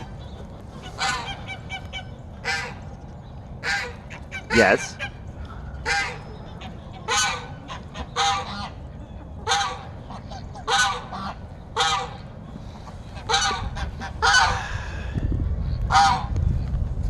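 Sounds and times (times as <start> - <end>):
geese honking: 0.0 - 14.9, 15.9 - 16.3.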